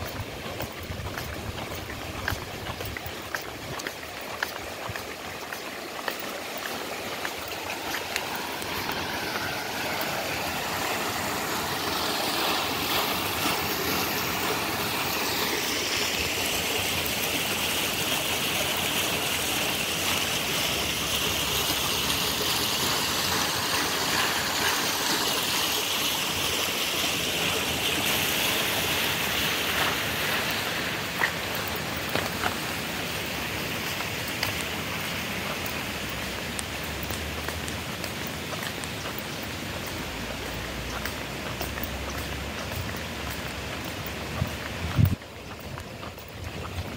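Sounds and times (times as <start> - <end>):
water flowing through channels: 0.0 - 46.9.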